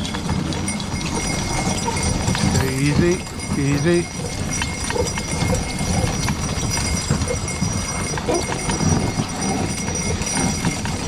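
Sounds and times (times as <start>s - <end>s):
harness jingling: 0.0s - 11.0s
pony hoofbeats on snow: 0.0s - 11.0s.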